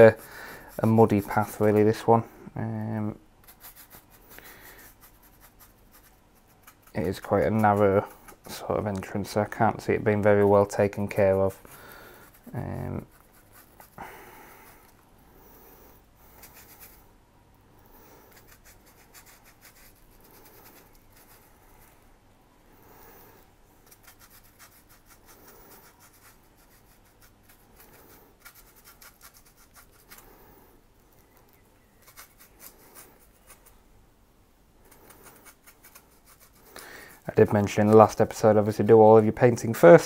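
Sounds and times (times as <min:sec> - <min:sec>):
paintbrush scratching on polystyrene: 0:00.0 - 0:02.2, 0:02.8 - 0:15.0, 0:16.2 - 0:17.1, 0:18.1 - 0:22.1, 0:22.8 - 0:30.5, 0:31.1 - 0:33.9, 0:34.8 - 0:40.0.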